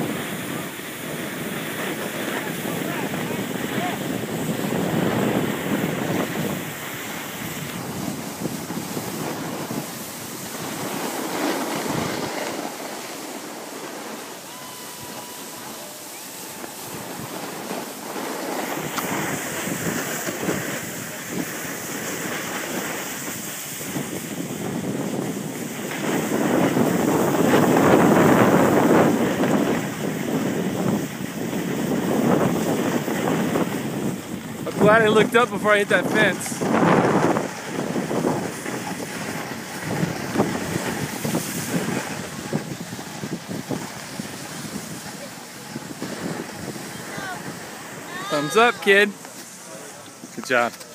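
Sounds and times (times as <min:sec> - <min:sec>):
wind rushing over microphone: 0:00.0 - 0:50.7
skis scraping on snow: 0:00.0 - 0:50.9.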